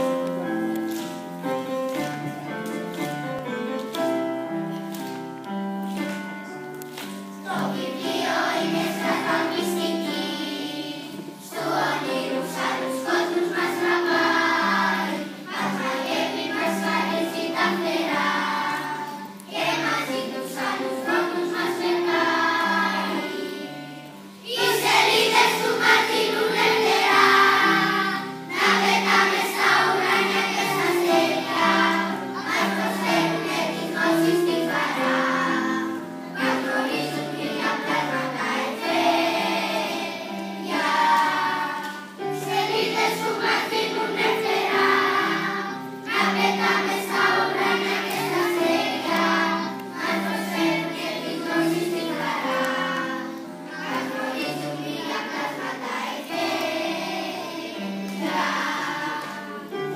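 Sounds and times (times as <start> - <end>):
children's choir singing: 0.0 - 59.9
keyboard accompaniment: 0.0 - 59.9.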